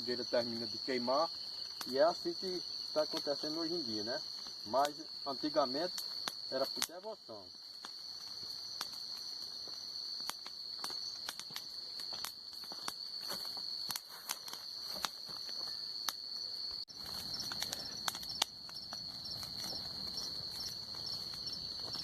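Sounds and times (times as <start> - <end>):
crackles and pops of fire: 0.0 - 22.0
crickets trilling: 0.0 - 22.0.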